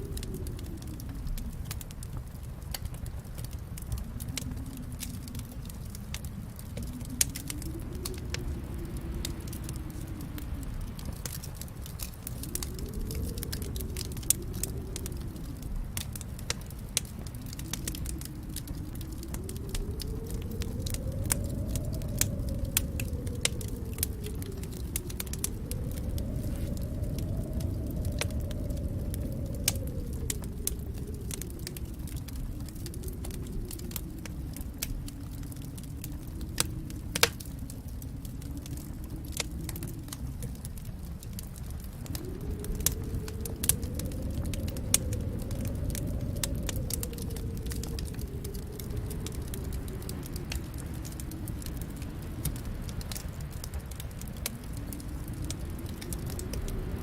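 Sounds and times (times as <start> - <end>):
flames rumbling: 0.0 - 57.0
sharp fire pops and snaps: 0.0 - 57.0.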